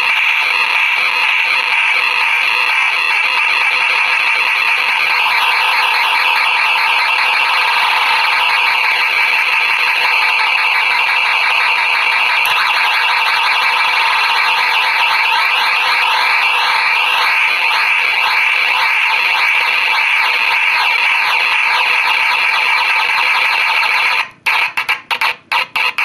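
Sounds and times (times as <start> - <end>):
harsh electronic squeal: 0.0 - 26.0.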